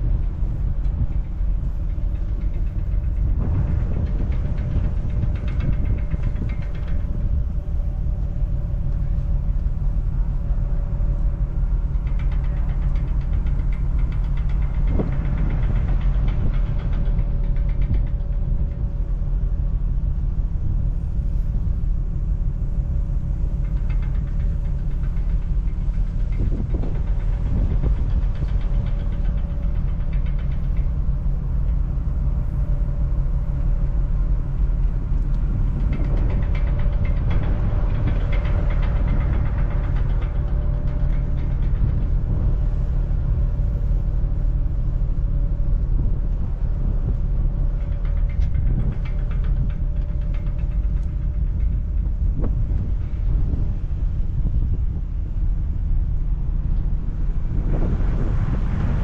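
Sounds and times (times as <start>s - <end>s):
ferry engines rumbling: 0.0s - 59.0s.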